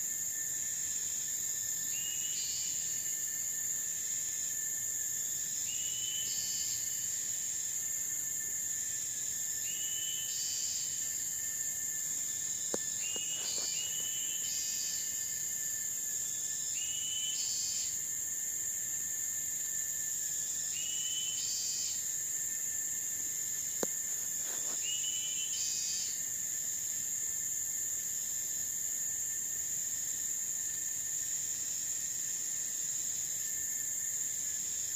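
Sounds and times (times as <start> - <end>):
high insect drone: 0.0 - 34.9.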